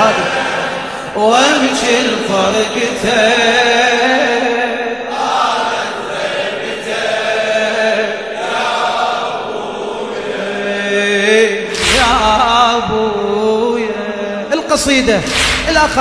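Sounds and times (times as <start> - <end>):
crowd of men chanting: 0.0 - 14.2.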